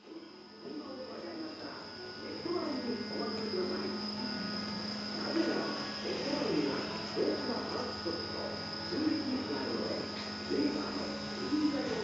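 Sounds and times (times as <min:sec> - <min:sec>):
high-pitched whine: 0:00.0 - 0:12.0
muffled voices: 0:00.0 - 0:12.0.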